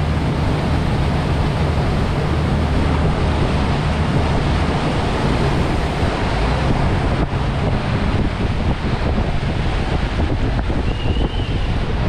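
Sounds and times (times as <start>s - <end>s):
boat engine rumbling: 0.0s - 12.0s
water rushing along hull: 0.0s - 12.0s
wind on microphone: 0.0s - 12.0s.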